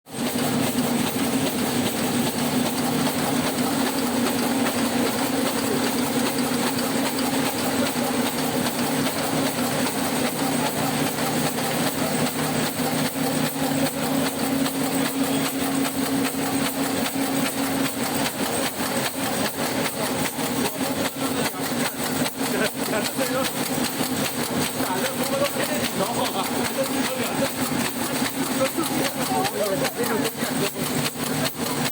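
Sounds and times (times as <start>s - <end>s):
machine clattering: 0.1s - 31.9s
machine hum: 0.1s - 31.9s.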